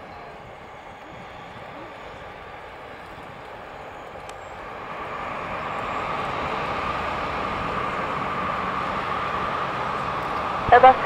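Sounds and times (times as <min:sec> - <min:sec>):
jet engines whining at taxi: 0:00.0 - 0:11.0.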